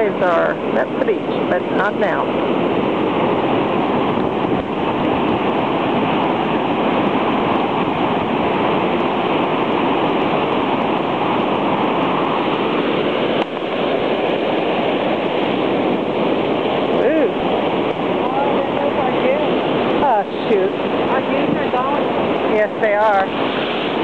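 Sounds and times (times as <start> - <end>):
surf breaking against seawall: 0.0 - 24.0.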